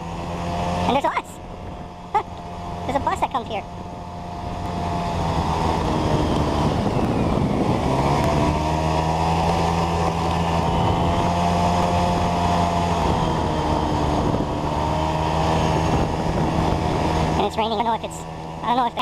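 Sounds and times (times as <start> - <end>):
wind noise on microphone: 0.0 - 17.6
motor scooter engine running: 0.0 - 19.0.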